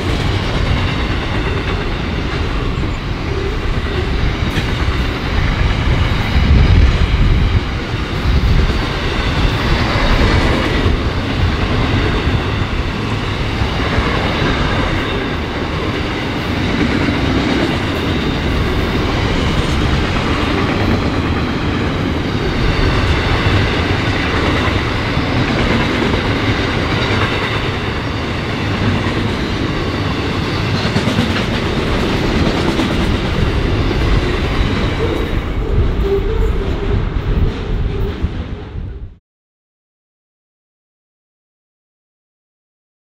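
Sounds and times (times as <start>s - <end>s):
freight train wagons rolling past: 0.0s - 39.1s.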